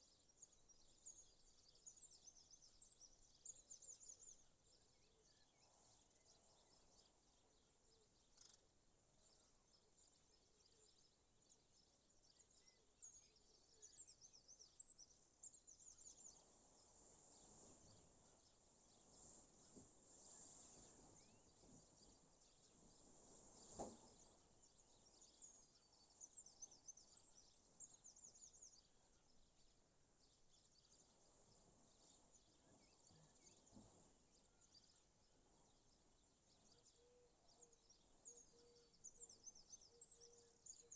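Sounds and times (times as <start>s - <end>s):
background hiss: 0.0s - 40.9s
birds chirping: 0.0s - 40.9s.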